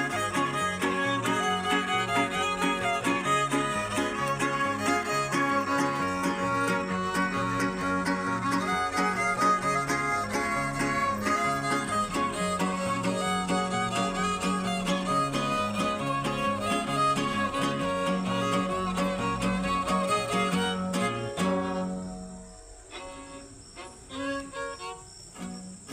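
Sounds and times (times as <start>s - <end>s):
guitars strumming: 0.0s - 23.4s
violin melody: 0.0s - 25.9s.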